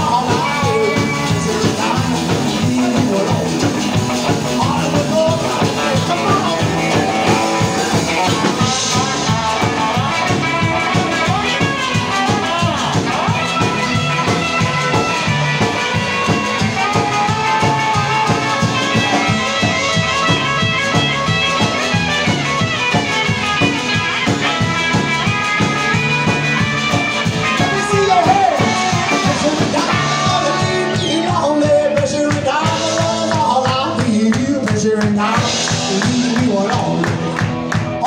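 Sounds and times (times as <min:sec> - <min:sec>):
country rock band playing: 0:00.0 - 0:38.0.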